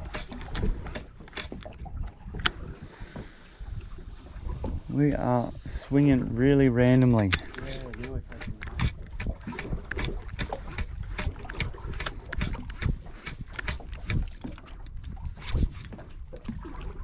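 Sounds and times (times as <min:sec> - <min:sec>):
water slapping boat hull: 0:00.0 - 0:17.0
wind rumble on microphone: 0:00.0 - 0:17.0.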